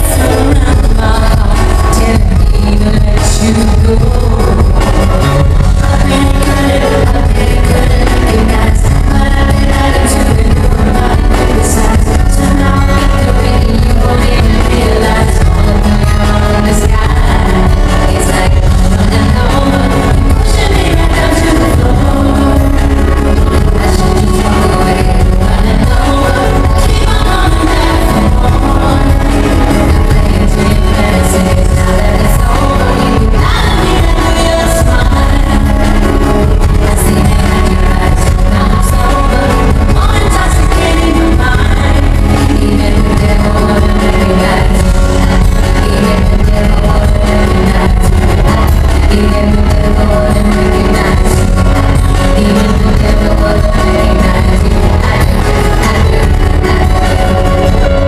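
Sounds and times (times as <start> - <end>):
live pop music with singing: 0.0 - 58.0.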